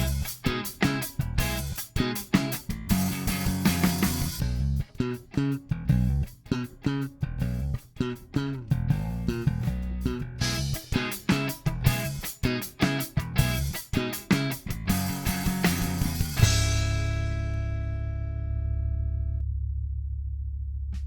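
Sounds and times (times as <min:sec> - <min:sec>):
electric bass plucked notes: 0:00.0 - 0:21.0.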